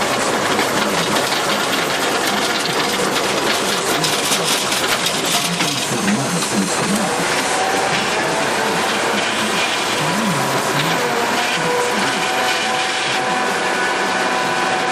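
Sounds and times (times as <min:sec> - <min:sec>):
tractor diesel engine clattering: 0:00.0 - 0:13.3.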